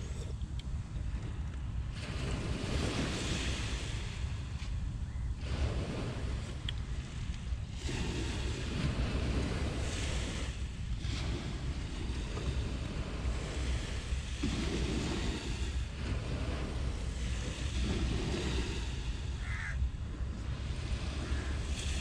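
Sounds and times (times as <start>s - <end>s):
wind rumbling on microphone: 0.0s - 22.0s
surf washing onto beach: 1.8s - 22.0s.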